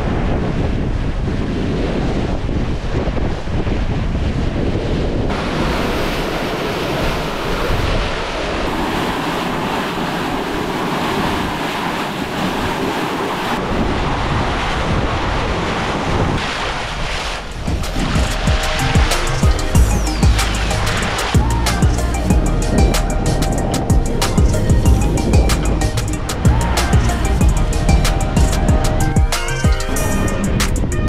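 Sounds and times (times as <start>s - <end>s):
water splashing along a hull: 0.0s - 30.8s
wind buffeting microphone: 0.0s - 31.0s.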